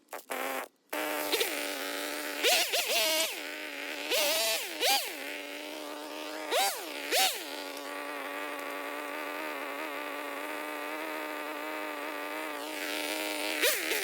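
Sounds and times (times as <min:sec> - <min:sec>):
chainsaw idling and revving: 0:00.2 - 0:14.0.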